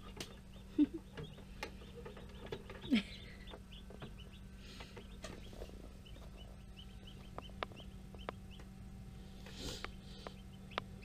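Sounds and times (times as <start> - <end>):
chicks peeping: 0.0 - 11.0
steady low hum: 0.0 - 11.0.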